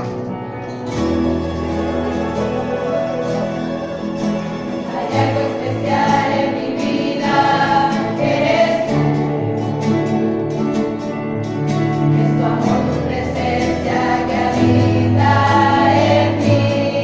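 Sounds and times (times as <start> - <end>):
strummed acoustic guitars: 0.0 - 17.0
choir singing a hymn: 0.9 - 10.3, 11.8 - 17.0.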